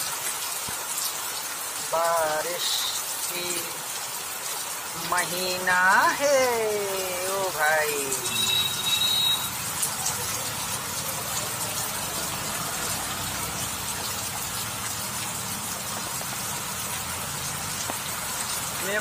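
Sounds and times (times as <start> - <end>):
heavy rain on standing water: 0.0 - 19.0.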